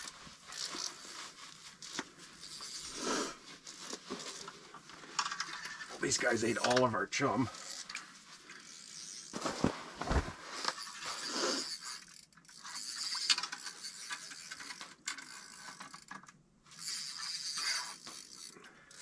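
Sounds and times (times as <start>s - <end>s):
fishing reel ratcheting: 0.0s - 1.2s, 1.8s - 4.4s, 5.2s - 9.4s, 10.6s - 19.0s.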